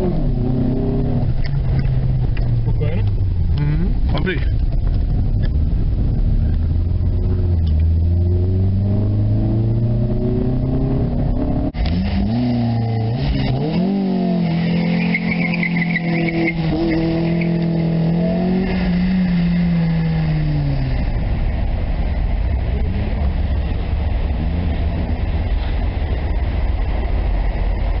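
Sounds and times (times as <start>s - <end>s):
steady low rumble: 0.0s - 15.0s, 16.0s - 28.0s
car engine driving off: 0.0s - 28.0s.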